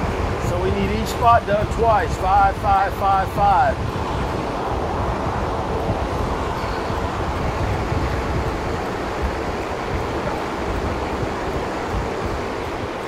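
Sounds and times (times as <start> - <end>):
rushing rumbling background noise: 0.0 - 13.0.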